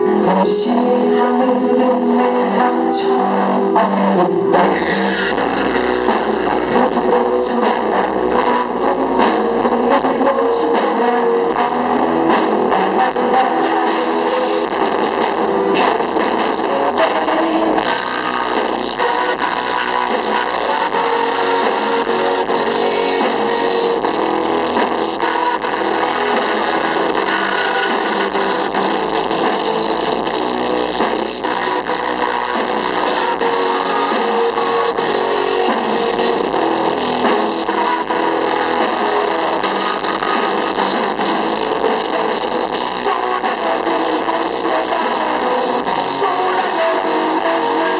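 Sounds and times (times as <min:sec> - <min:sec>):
live rock band with electric guitar: 0:00.0 - 0:47.9.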